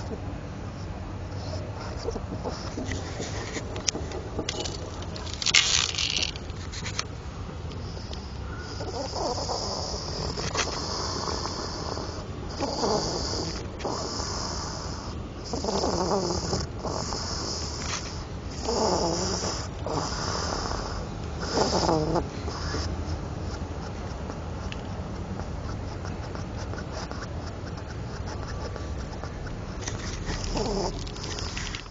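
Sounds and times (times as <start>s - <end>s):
hedgehog snoring: 1.3s - 6.3s, 7.9s - 23.6s, 25.4s - 31.9s.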